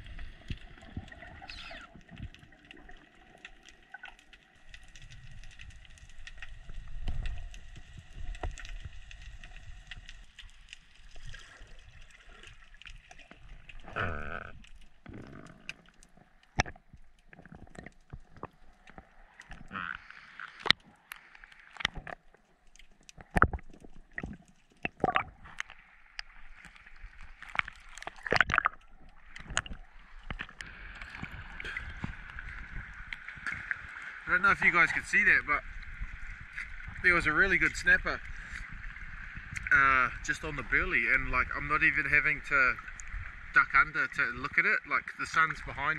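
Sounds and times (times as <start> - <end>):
sharp clicks and crackles: 0.0 - 38.8
water sloshing around camera: 0.0 - 44.3
water gurgling: 0.0 - 45.9.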